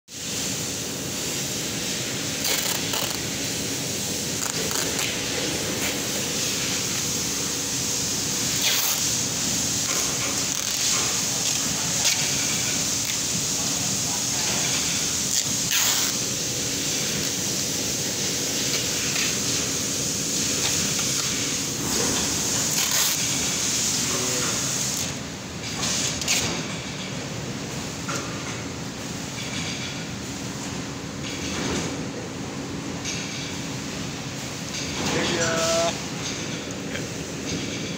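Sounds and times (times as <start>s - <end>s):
press machine hissing and humming: 0.1s - 37.9s.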